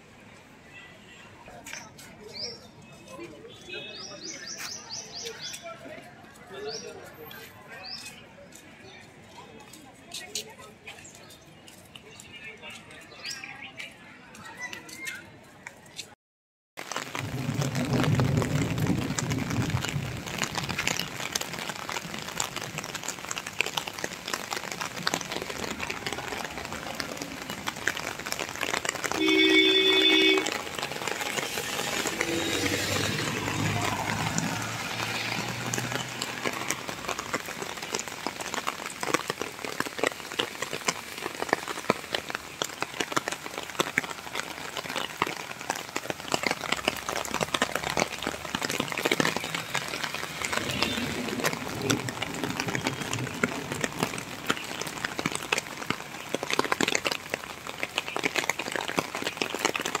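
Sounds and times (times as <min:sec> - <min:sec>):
rain on pavement and puddles: 0:00.0 - 0:16.2, 0:16.8 - 1:00.0.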